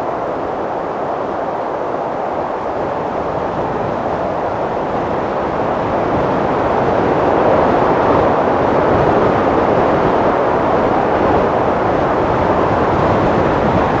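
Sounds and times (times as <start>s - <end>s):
wind blowing: 0.0s - 14.0s.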